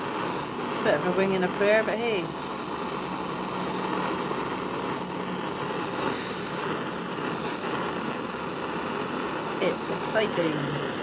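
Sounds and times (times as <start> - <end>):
higher hiss: 0.0 - 11.0
torch flame burning: 0.0 - 11.0.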